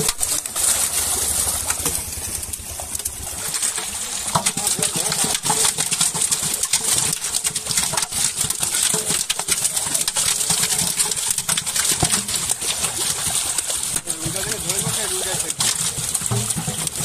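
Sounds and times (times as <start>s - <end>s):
fish thrashing and splashing water: 0.0s - 17.0s.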